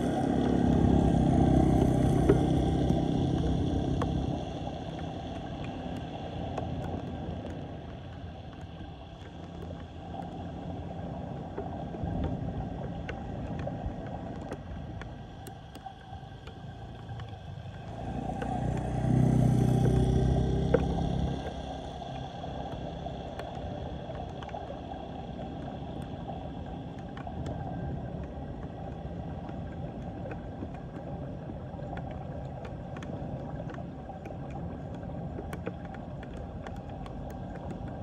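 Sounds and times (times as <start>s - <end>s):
vehicle engine hum: 0.0s - 38.0s
water rushing down storm drain: 0.0s - 38.0s
small clicks: 2.1s - 20.1s, 20.7s - 38.0s.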